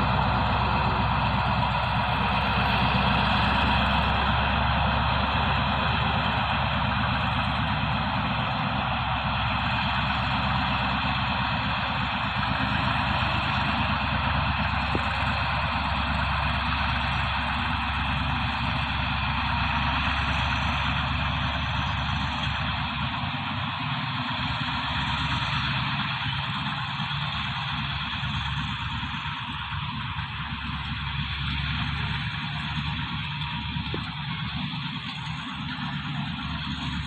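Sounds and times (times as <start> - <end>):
diesel locomotive engine running: 0.0 - 37.0.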